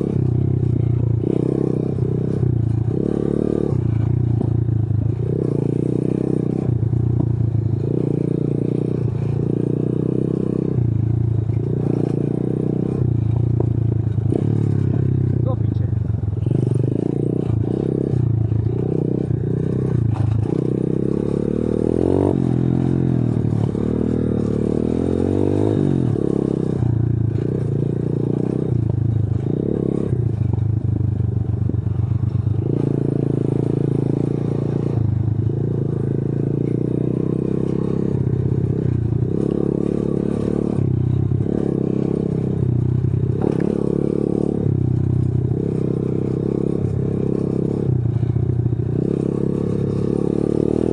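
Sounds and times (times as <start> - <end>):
motorbike engine revving: 0.0 - 50.9.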